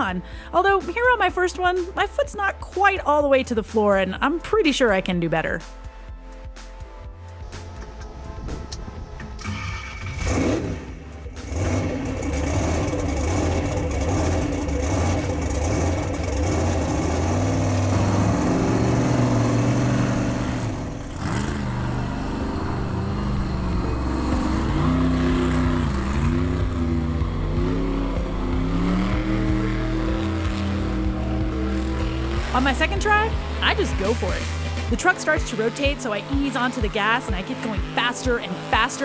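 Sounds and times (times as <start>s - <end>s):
truck engine revving: 6.7s - 39.0s.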